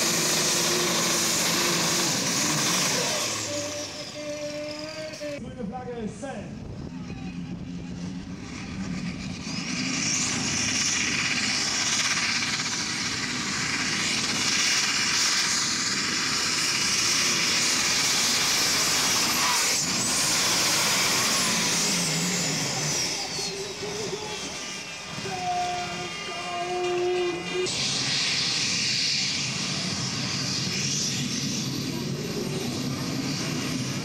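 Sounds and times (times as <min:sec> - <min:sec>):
tractor engine at full throttle: 0:00.0 - 0:05.8, 0:06.5 - 0:34.0
high whine: 0:00.0 - 0:34.0.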